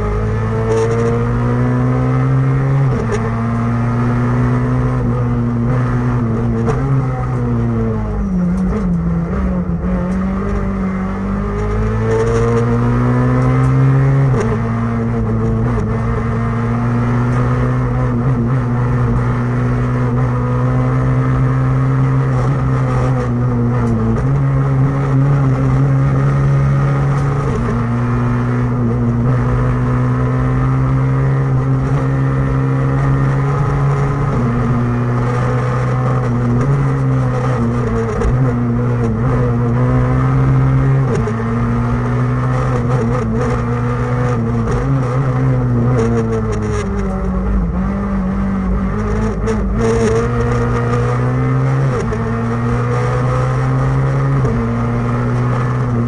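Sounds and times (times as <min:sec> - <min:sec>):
rally car engine under load: 0:00.0 - 0:56.0.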